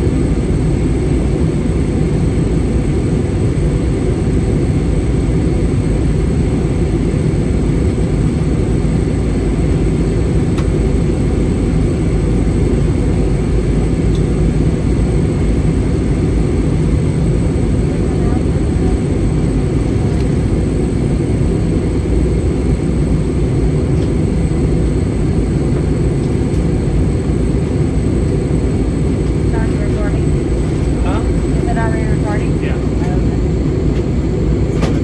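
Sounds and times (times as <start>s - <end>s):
aircraft cabin roar: 0.0s - 35.0s.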